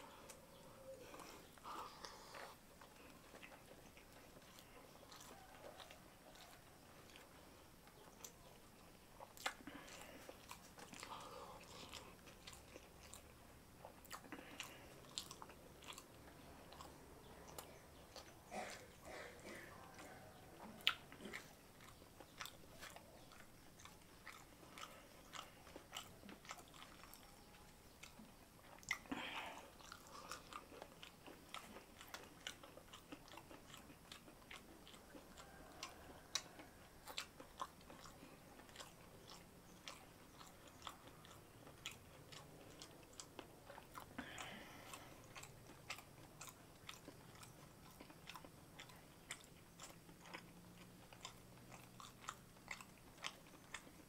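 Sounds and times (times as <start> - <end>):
chewing with lip-smacking: 0.0 - 54.0.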